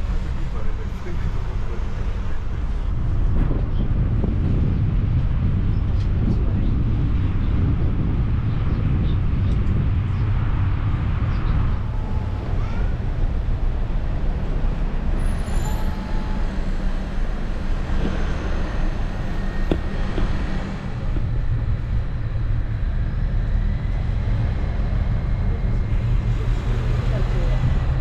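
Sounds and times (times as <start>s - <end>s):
road train engine rumble: 0.0s - 28.0s.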